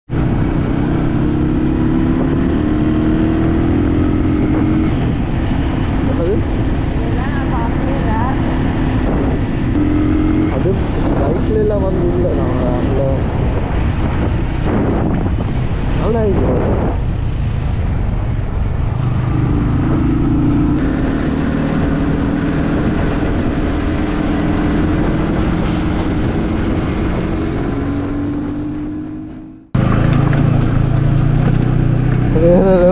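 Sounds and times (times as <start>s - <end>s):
road noise rumble: 0.0s - 32.9s
vehicle engine hum: 0.0s - 32.9s.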